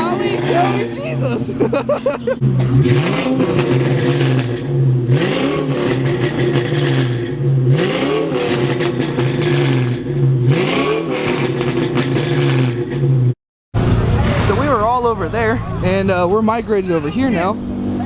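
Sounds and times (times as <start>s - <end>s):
car engine revving hard: 0.0s - 14.9s.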